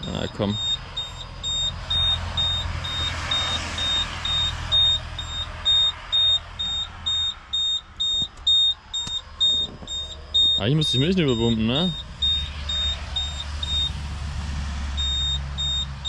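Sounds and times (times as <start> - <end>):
high warning beeps: 0.0 - 14.0, 15.0 - 16.0.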